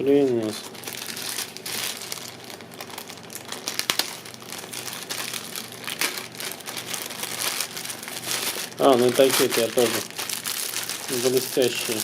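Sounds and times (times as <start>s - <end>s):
packaging crinkling and rustling: 0.0s - 12.0s
packaging tearing: 0.3s - 12.0s.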